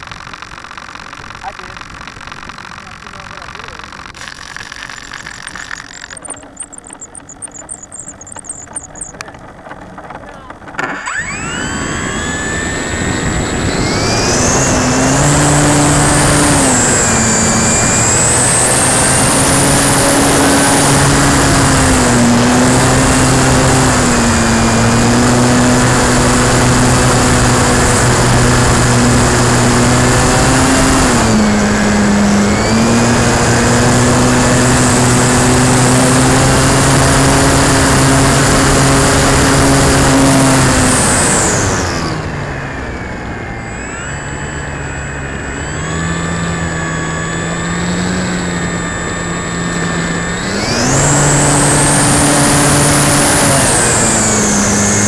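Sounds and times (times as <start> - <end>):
electric plane motor whining: 0.0 - 55.0.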